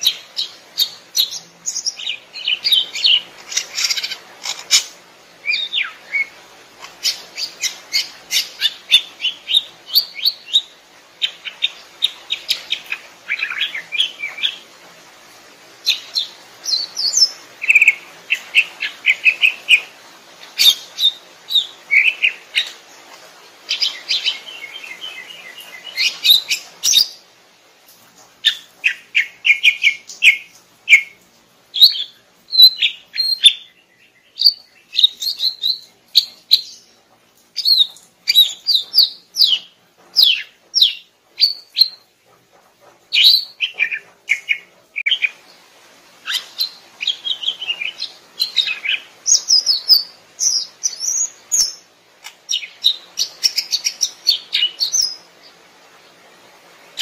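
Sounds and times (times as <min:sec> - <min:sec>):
bird singing chirps and trills: 0:00.0 - 0:14.7, 0:15.8 - 0:27.3, 0:28.4 - 0:37.0, 0:37.6 - 0:42.1, 0:43.1 - 0:55.6.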